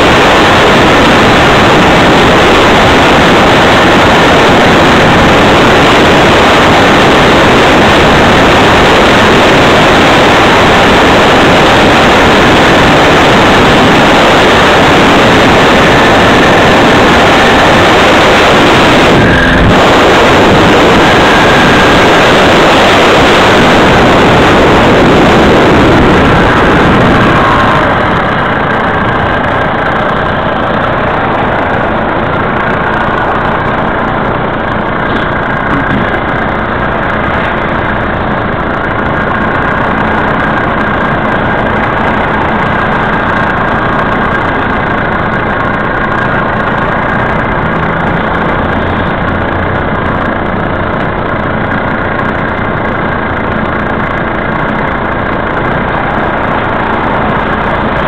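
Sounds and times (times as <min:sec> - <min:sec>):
traffic noise: 0:00.0 - 0:58.0
vehicle engine idling: 0:00.0 - 0:58.0.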